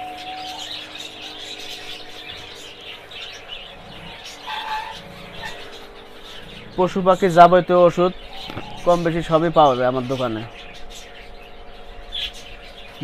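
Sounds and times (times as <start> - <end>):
caged birds chirping: 0.0 - 13.0
faint steady hum: 0.0 - 13.0.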